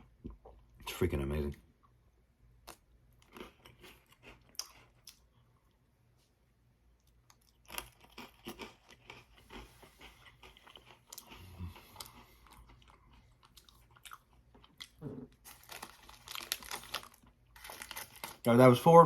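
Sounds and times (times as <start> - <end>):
chewing crunchy biscuit sticks: 1.8 - 5.8, 6.9 - 18.5.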